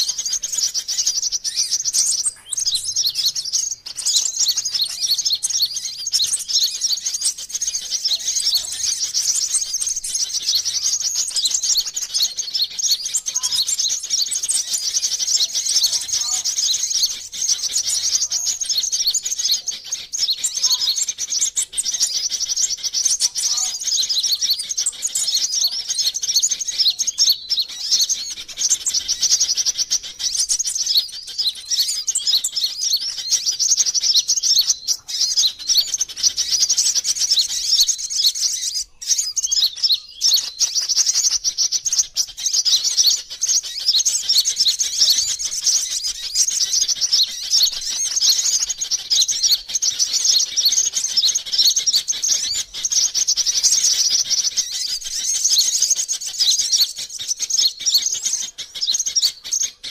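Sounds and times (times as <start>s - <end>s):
high-pitched bird chirps and trills: 0.0s - 59.9s.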